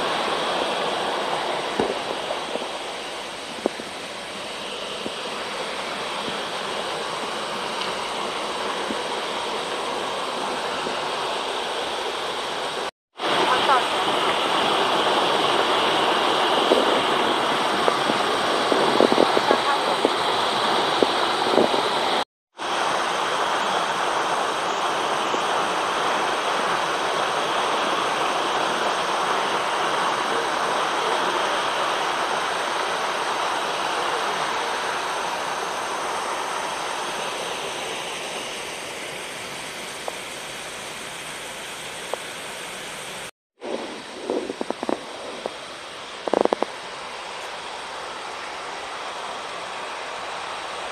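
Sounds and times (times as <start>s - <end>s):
water rushing over weir: 0.0s - 50.9s.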